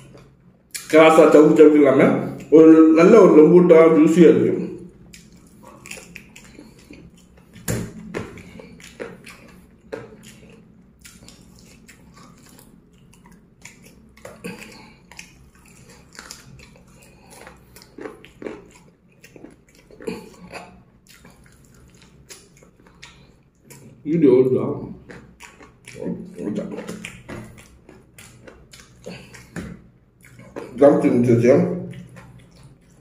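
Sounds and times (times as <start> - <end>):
person chewing crunchy fried chicken: 0.0 - 0.9, 4.6 - 24.0, 24.8 - 33.0.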